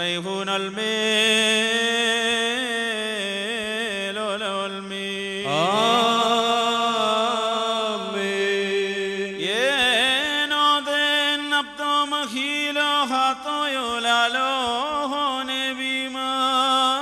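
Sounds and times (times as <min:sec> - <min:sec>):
slow liturgical chant: 0:00.0 - 0:17.0.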